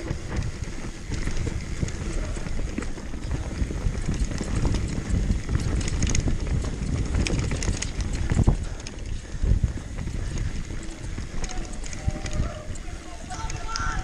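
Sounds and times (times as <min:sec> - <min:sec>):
mountain bike clattering on trail: 0:00.0 - 0:14.0.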